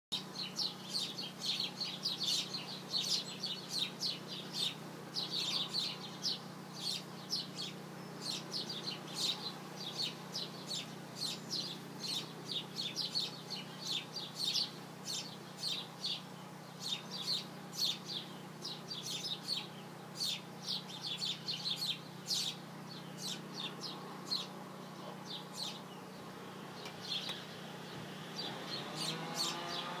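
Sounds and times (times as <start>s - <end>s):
birds chirping rapidly: 0.1s - 30.0s
steady low hum: 0.2s - 29.2s.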